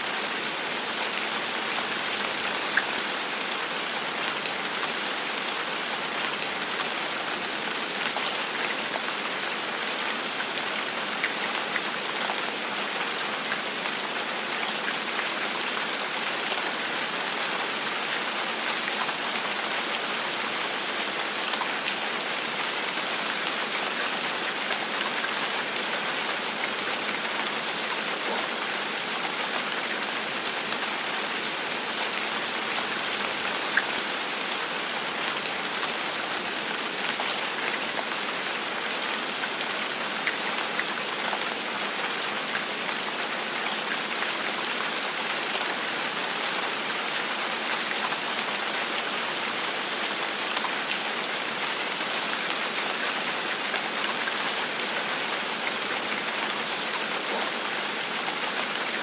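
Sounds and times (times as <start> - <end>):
gentle rain falling: 0.0 - 59.0.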